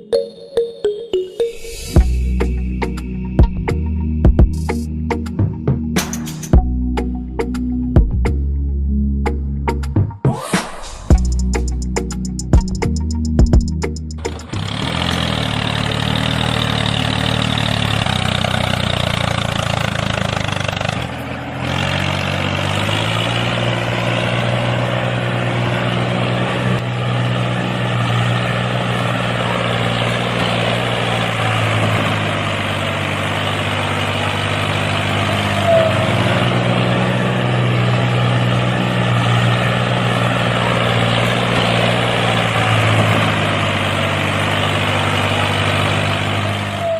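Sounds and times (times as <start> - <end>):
tractor engine running: 1.9 - 8.6, 10.7 - 46.9.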